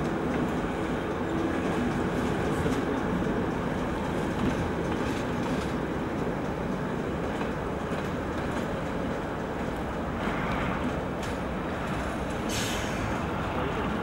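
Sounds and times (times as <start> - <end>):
diesel locomotive engine drone: 0.0 - 14.0
rail noise: 0.0 - 14.0.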